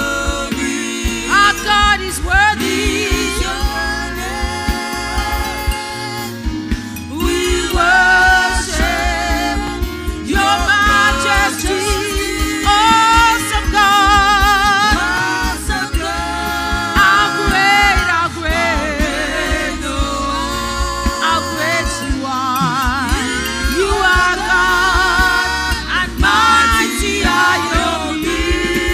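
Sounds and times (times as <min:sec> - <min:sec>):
band playing gospel music: 0:00.0 - 0:28.9.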